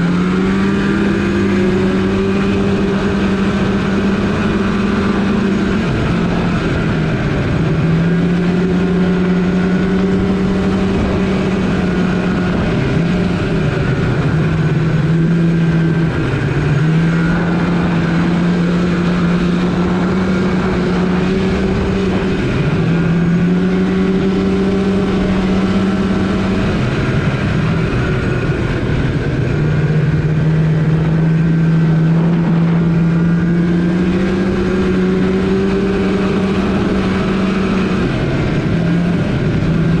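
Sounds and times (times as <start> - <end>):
snowmobile engine running: 0.0 - 40.0.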